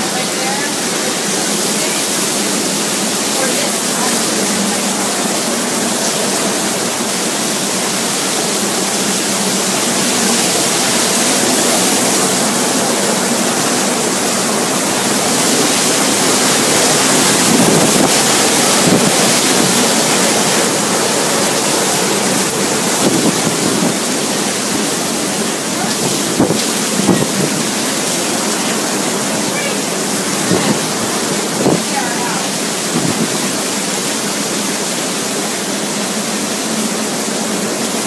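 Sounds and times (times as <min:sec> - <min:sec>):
driving rain: 0:00.0 - 0:38.0
hurricane wind: 0:00.0 - 0:38.0.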